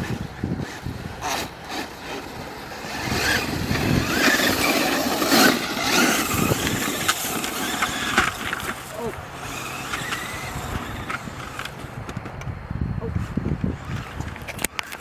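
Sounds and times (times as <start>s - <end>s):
radio-controlled car motor revving: 0.0s - 12.1s.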